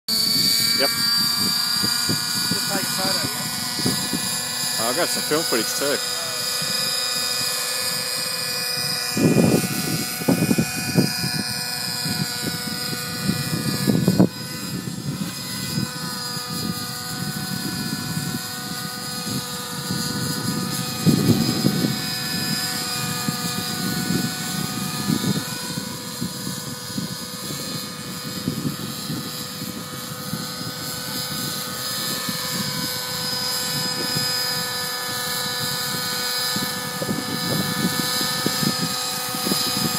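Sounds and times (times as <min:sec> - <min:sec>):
helicopter hovering whine: 0:00.1 - 0:39.9
wind rumble on microphone: 0:00.1 - 0:39.9.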